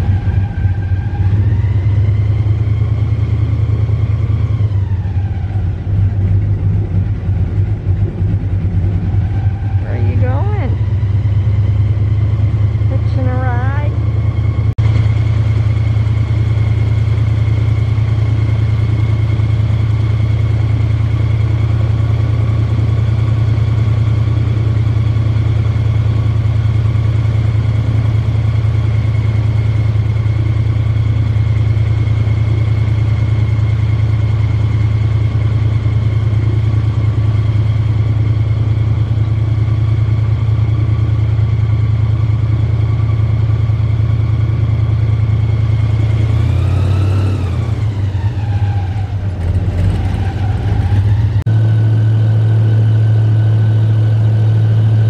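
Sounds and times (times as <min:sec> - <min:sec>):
airboat engine idling: 0:00.0 - 0:55.0.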